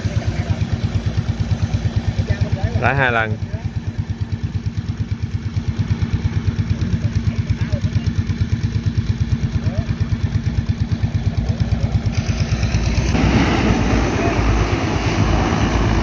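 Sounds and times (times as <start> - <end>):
pulsing low machine hum: 0.0 - 16.0.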